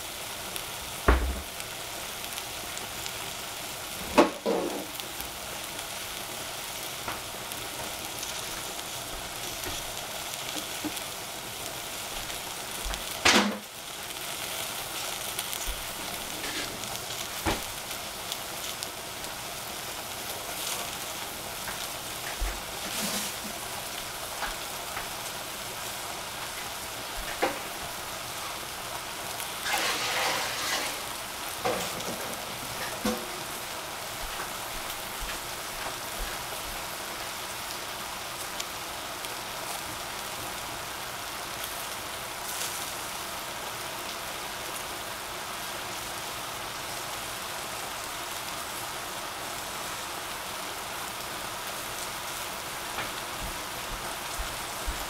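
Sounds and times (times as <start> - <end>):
vegetables sizzling in a saucepan: 0.0 - 55.0
crackles and spatters: 0.2 - 55.0.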